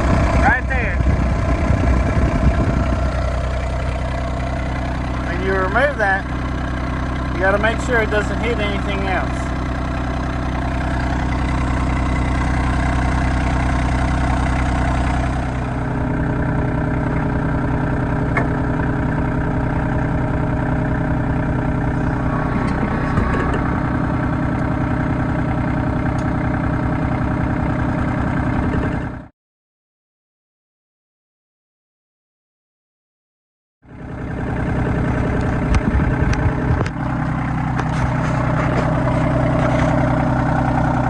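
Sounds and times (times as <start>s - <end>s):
tractor diesel engine running: 0.0s - 29.3s, 33.8s - 41.0s.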